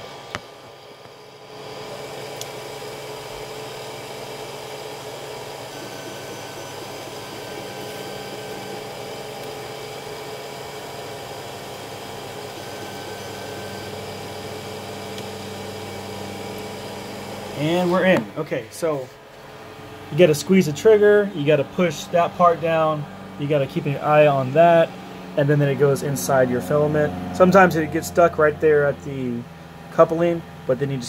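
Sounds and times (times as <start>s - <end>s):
stepper motor hum and whine: 0.0s - 31.0s.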